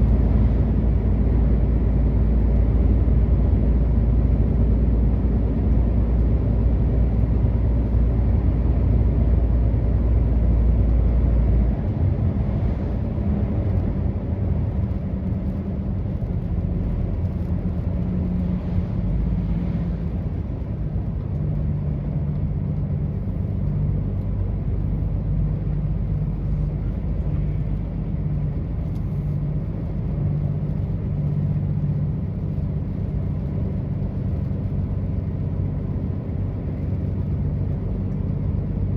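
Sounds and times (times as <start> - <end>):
truck engine rumble: 0.0 - 38.9.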